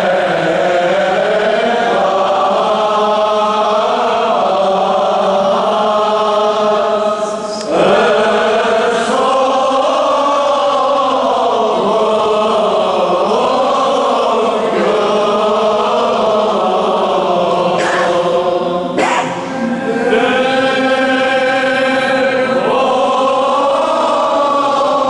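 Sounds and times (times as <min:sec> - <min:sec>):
choir chanting a hymn: 0:00.0 - 0:25.0.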